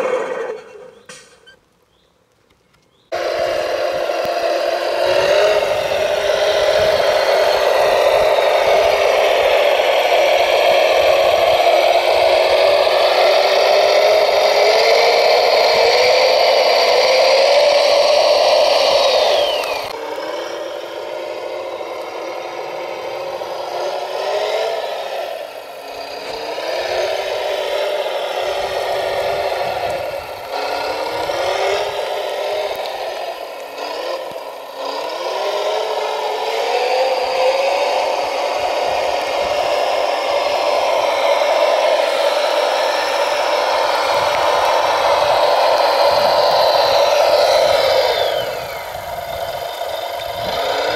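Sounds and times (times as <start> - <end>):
model loader mechanical drone: 0.0 - 1.7, 2.5 - 50.9
high whine: 3.1 - 50.9.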